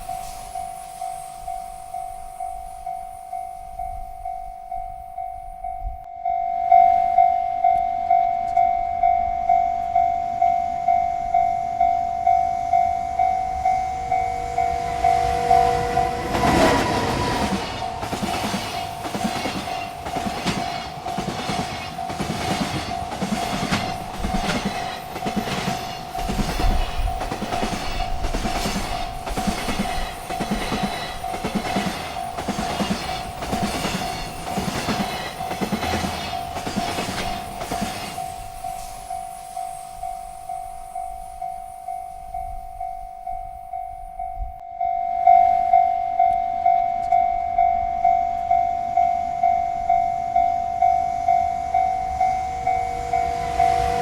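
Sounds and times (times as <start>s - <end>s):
railroad crossing bell ringing: 0.0s - 54.0s
freight train wheels clacking: 7.6s - 43.9s, 45.8s - 54.0s.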